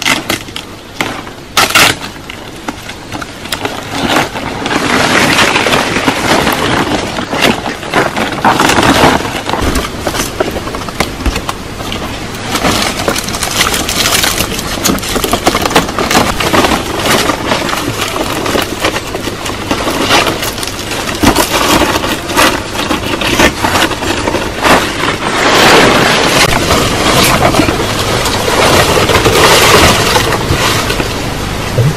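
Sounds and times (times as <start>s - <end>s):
wood cracking and snapping: 0.0s - 31.2s
rustling: 0.0s - 31.9s.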